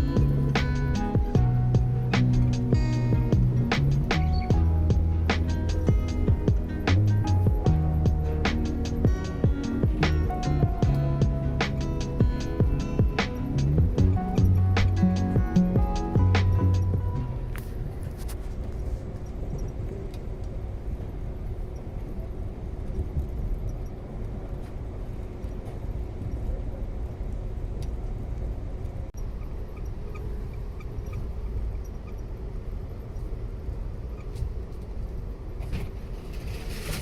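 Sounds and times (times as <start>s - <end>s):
vehicle rumble: 0.0s - 37.0s.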